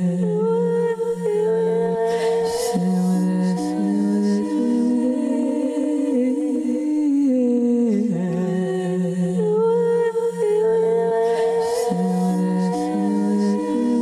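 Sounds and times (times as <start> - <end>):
woman humming and singing: 0.0 - 14.0.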